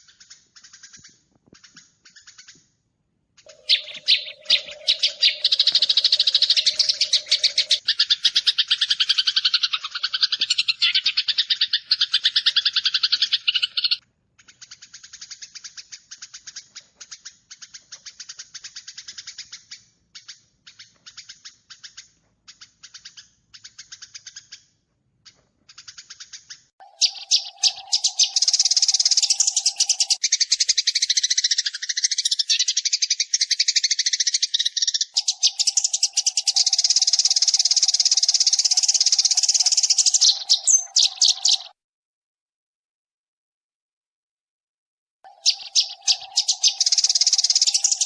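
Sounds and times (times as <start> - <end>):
sparrows chirping: 0.0 - 2.8, 3.4 - 41.8, 45.3 - 48.0.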